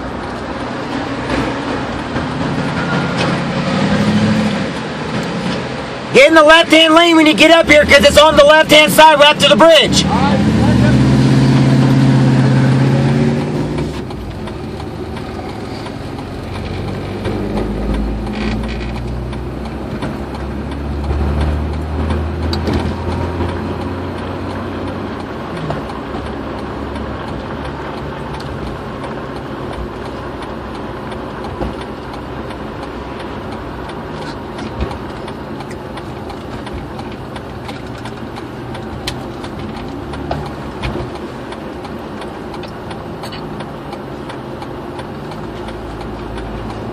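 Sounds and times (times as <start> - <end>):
vehicle road and engine noise: 0.0 - 46.9.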